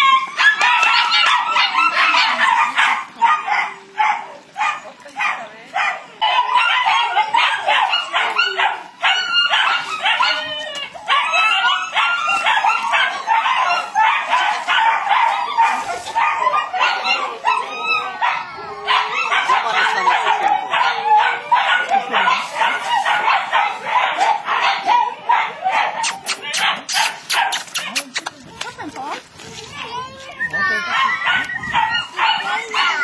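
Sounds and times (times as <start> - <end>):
puppy barking: 0.0 - 28.2, 30.7 - 33.0.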